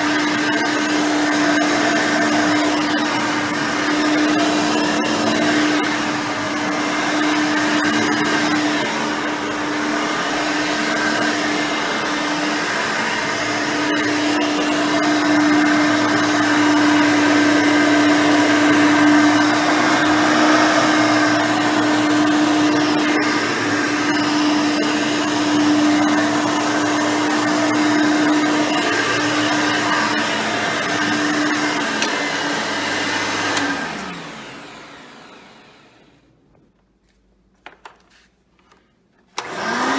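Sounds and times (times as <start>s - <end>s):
vacuum cleaner motor humming: 0.0s - 36.4s, 39.3s - 39.9s.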